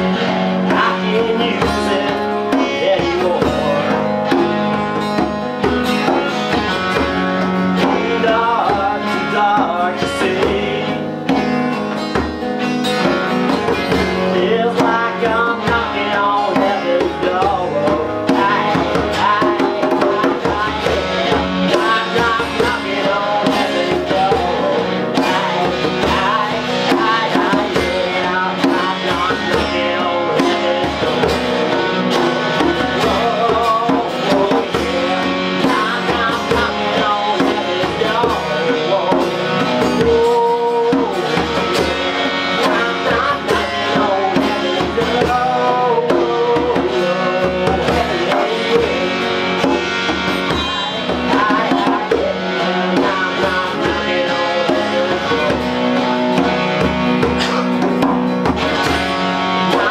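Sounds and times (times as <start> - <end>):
acoustic guitar strumming: 0.0 - 59.9
electric guitar playing lines: 0.0 - 59.9
hand drum beat: 0.0 - 59.9.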